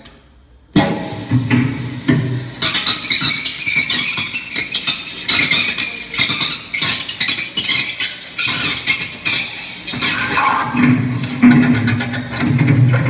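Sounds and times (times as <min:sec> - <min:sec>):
electronic noise music: 0:00.8 - 0:13.0.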